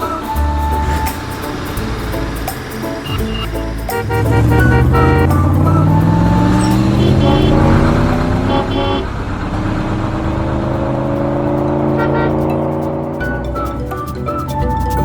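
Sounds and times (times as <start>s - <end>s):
light background music: 0.0s - 9.0s, 10.4s - 15.0s
vehicle engine speeding up: 0.0s - 13.6s.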